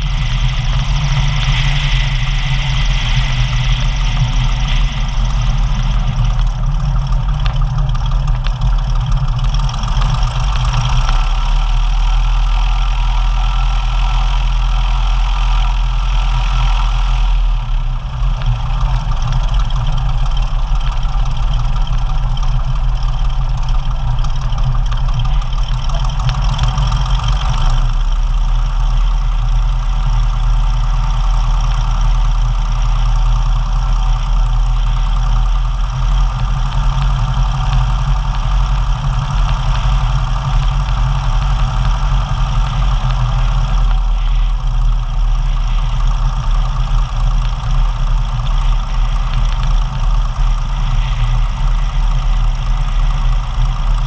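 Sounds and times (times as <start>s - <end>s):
propeller aircraft engine idling: 0.0s - 54.0s.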